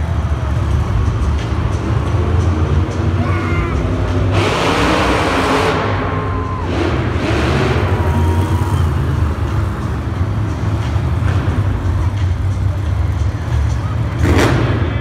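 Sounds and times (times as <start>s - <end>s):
loud rush of noise: 0.0s - 15.0s
monster truck engines rumbling: 0.0s - 15.0s.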